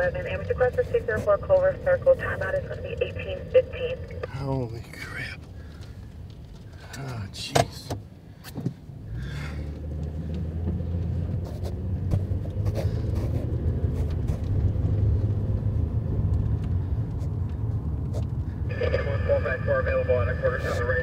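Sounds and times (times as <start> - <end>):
car engine rumble from inside: 0.0 - 21.0
road noise: 0.0 - 21.0.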